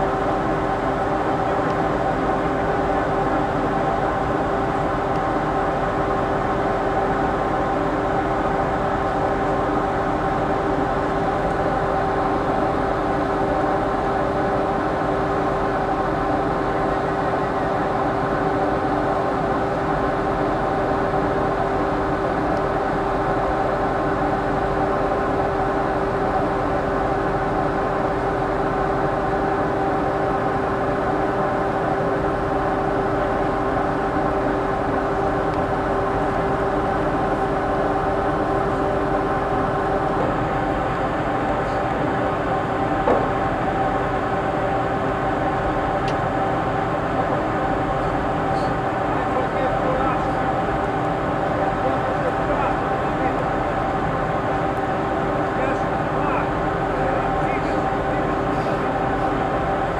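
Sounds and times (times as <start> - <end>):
ship machinery droning: 0.0 - 59.9.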